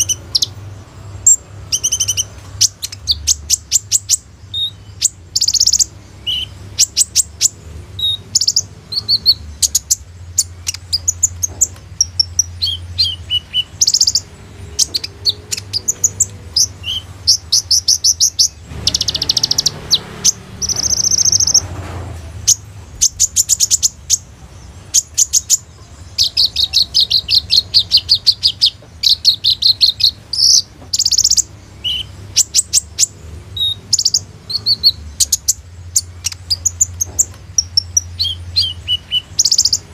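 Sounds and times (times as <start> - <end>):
bird singing sharp chips and trills: 0.0 - 21.7, 22.4 - 39.9.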